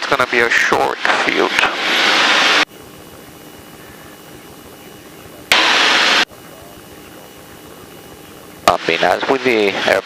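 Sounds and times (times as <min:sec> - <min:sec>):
aircraft engine drone: 0:00.0 - 0:10.0.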